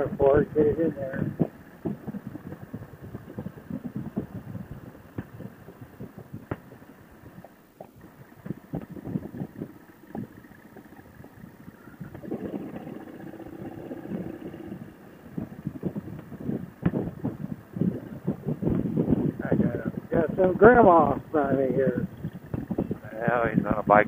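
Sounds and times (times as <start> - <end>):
motorcycle engine: 0.0 - 24.0
wind buffeting: 0.0 - 24.0.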